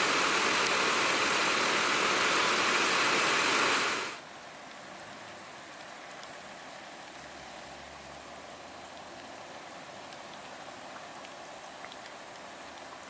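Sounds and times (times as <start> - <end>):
rain falling on pavement: 0.0 - 13.0.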